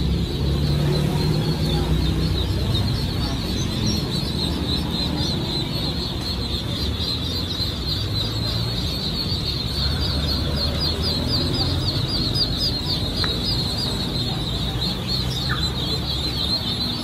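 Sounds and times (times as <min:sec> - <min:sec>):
ducklings peeping: 0:00.0 - 0:17.0.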